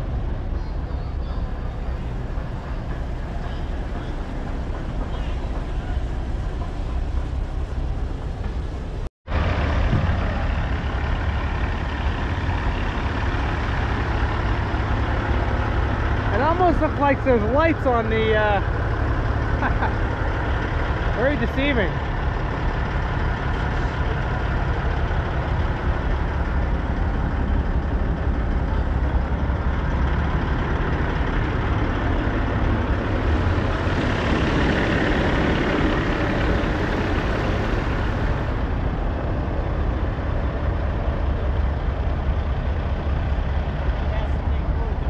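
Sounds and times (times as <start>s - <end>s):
diesel truck engines idling: 0.0s - 45.0s.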